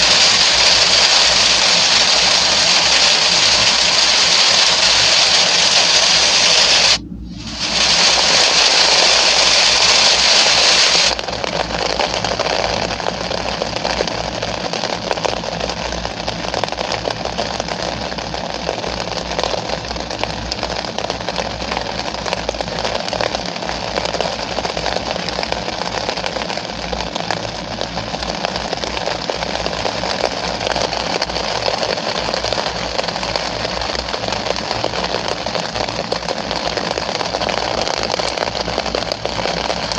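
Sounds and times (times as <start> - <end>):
crackling raindrops: 0.0 - 39.9
rain hissing: 0.0 - 39.9.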